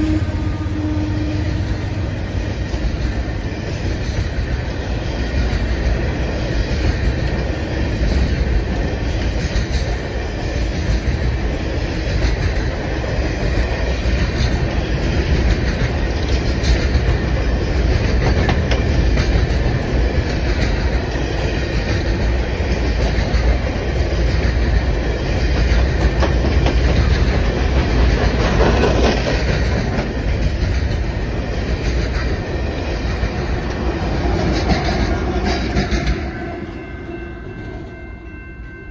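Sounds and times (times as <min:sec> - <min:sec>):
diesel locomotive: 0:00.0 - 0:38.9
freight train rumbling past: 0:00.0 - 0:38.9
wheels clacking over rail joints: 0:01.5 - 0:36.5.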